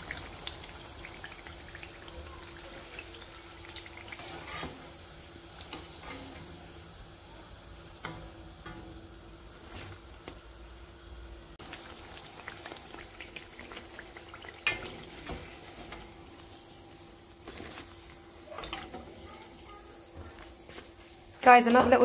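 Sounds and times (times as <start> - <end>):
potato slices deep-frying in oil: 0.0 - 22.0.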